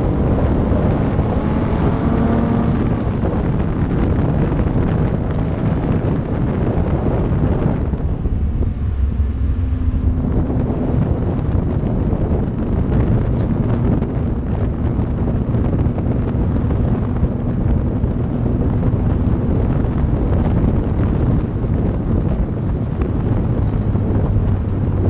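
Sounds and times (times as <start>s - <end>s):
car engine: 0.0s - 25.0s
road noise: 0.0s - 25.0s
wind buffeting microphone: 0.0s - 25.0s.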